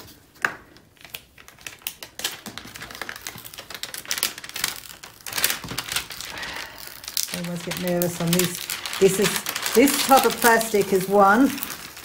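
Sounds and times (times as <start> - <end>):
plastic film peeling off glue: 0.0 - 12.0.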